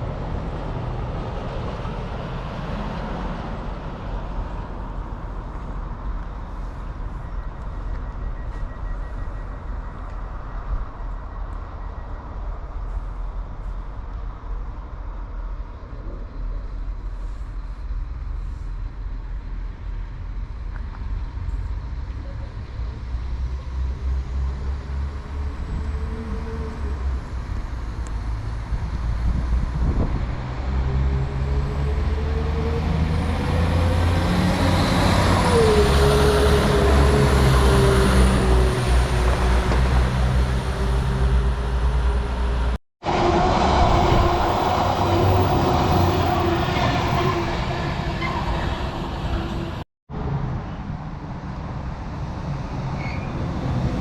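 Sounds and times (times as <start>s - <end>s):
train engine rumble: 0.0s - 54.0s.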